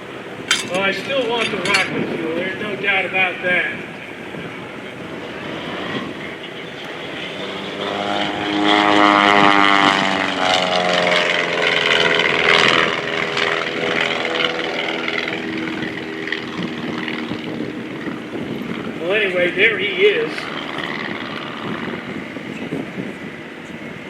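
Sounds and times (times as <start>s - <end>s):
propeller airplane flying past: 0.0s - 24.0s.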